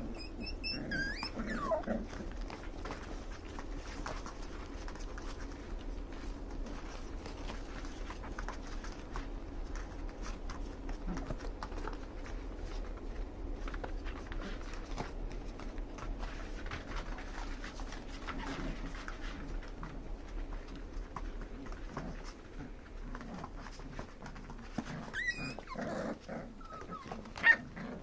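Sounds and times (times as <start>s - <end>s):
puppy paws scrabbling on cardboard: 1.2s - 28.0s.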